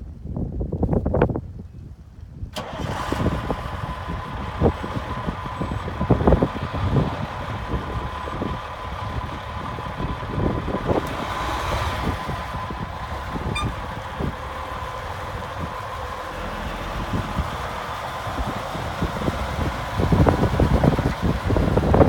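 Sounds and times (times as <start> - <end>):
wind buffeting microphone: 0.0 - 22.0
diesel truck engine idling: 2.6 - 22.0.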